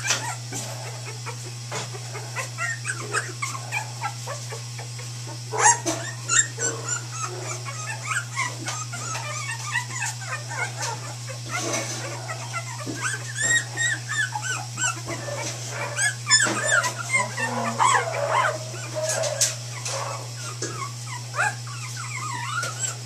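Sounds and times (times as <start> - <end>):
puppies whimpering and squealing: 0.0 - 23.0
steady low hum: 0.0 - 23.0.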